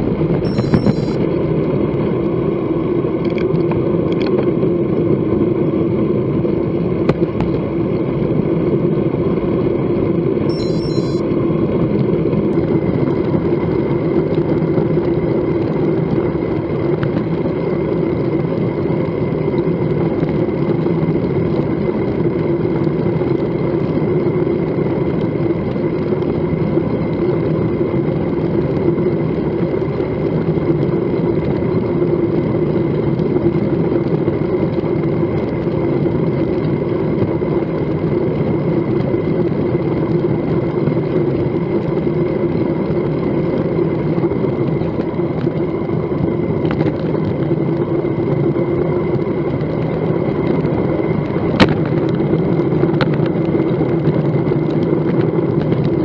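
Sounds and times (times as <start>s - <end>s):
tyre road noise on asphalt: 0.0s - 56.0s.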